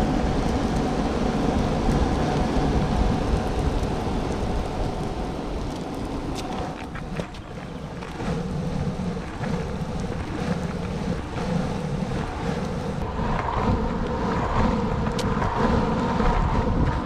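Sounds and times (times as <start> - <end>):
longboard wheels rolling on pavement: 0.0 - 17.0
wind buffeting microphone: 0.0 - 17.0.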